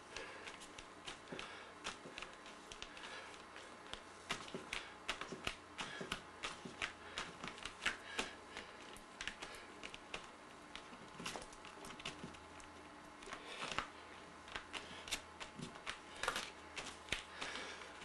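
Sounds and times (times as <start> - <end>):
fingertips tapping paint: 0.0 - 18.0.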